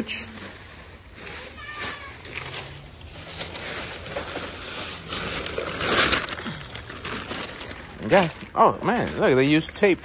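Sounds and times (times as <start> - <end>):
plastic and paper rustling: 0.0 - 10.0.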